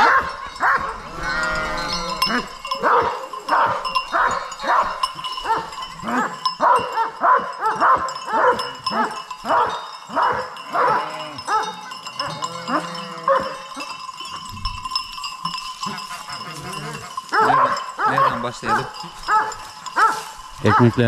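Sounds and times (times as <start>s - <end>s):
dogs barking and yelping: 0.0s - 21.0s.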